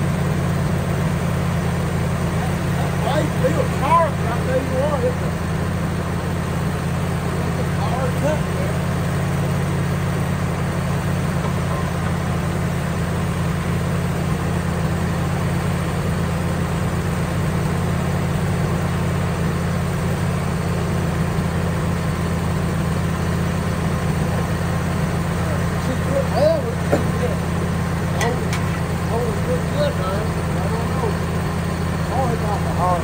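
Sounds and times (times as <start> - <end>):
sawmill engine idling: 0.0 - 33.0.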